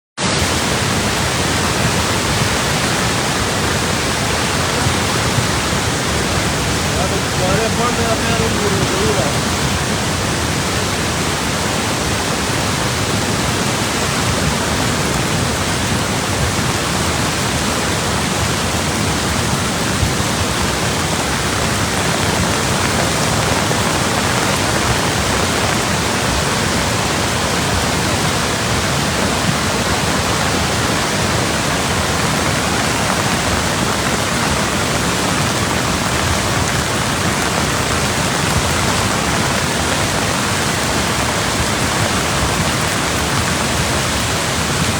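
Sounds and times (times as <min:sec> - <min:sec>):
floodwater rushing: 0:00.2 - 0:44.9.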